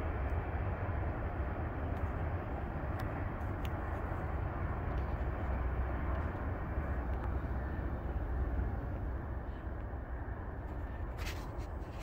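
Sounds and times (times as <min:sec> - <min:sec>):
distant freight train rumbling: 0:00.0 - 0:12.0.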